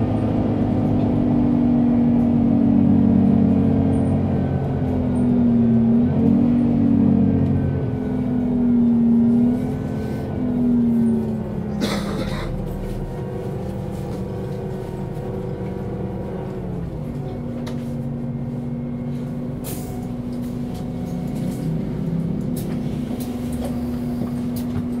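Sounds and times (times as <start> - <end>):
bus diesel engine humming: 0.0 - 25.0.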